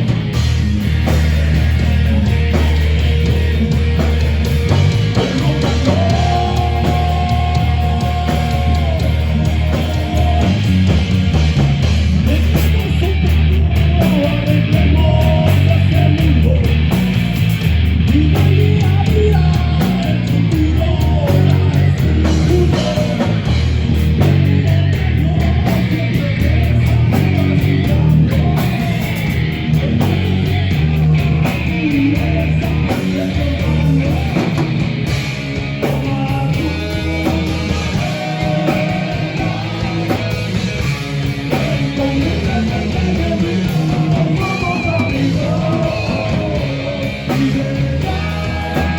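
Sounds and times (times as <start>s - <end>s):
live heavy metal band: 0.0s - 48.9s.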